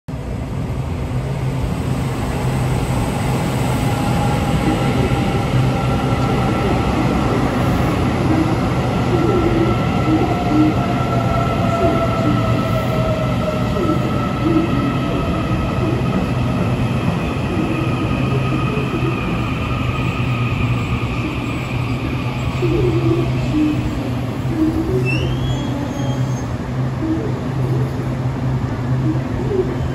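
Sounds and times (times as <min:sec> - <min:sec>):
train wheels rumbling on rail: 0:00.1 - 0:29.9.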